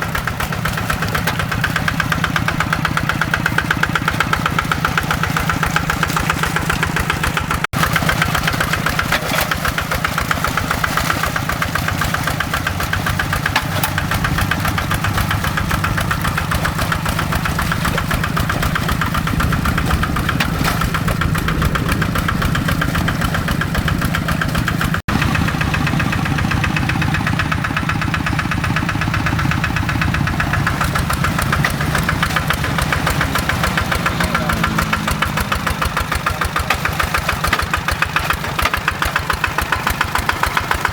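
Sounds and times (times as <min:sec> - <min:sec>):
single-cylinder diesel engine running: 0:00.0 - 0:40.9.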